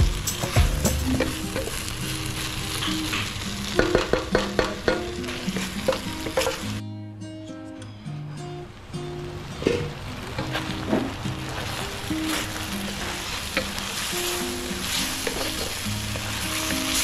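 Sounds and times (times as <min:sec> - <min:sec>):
food sizzling in a wok: 0:00.0 - 0:06.8, 0:08.3 - 0:17.0
background music: 0:00.0 - 0:17.0.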